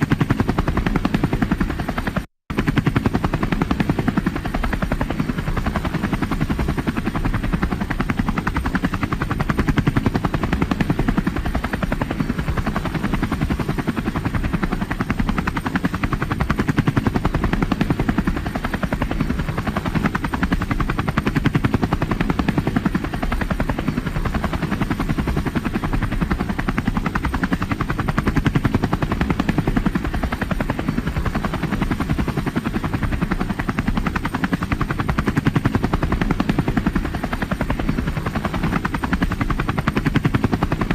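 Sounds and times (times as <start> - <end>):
helicopter engine noise: 0.0 - 40.9
helicopter rotor blades thudding: 0.0 - 40.9.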